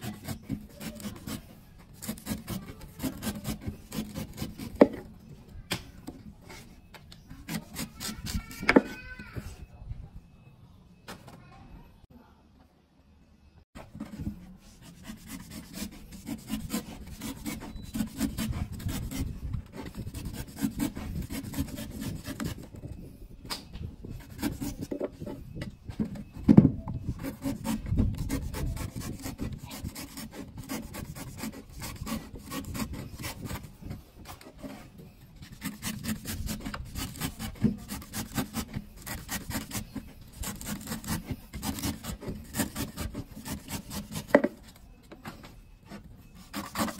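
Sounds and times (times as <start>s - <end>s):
knife scraping coconut husk: 0.0s - 5.2s, 6.0s - 9.7s, 13.8s - 23.2s, 24.0s - 46.9s.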